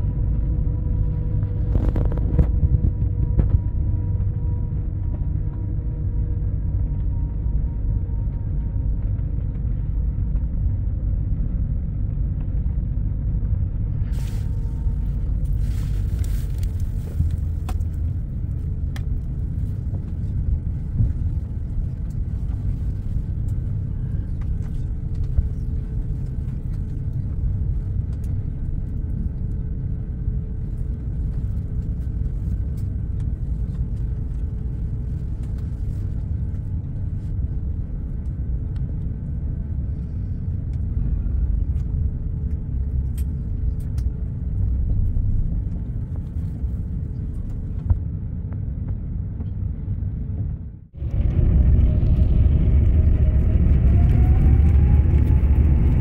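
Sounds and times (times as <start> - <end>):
wheels rolling on taxiway: 0.0 - 49.6, 50.4 - 56.0
faint steady hum: 0.0 - 56.0.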